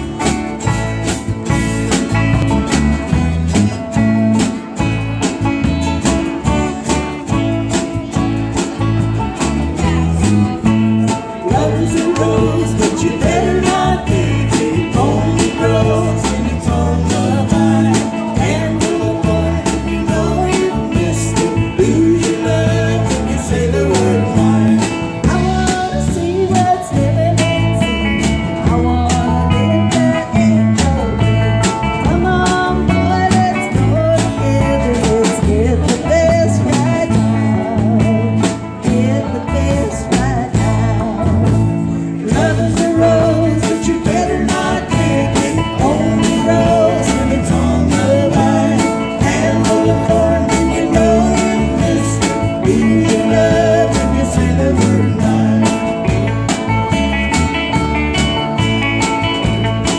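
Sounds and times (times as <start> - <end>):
banjo: 0.0 - 59.9
country band playing: 0.0 - 59.9
drum kit beat: 0.0 - 59.9
person singing: 2.6 - 56.7.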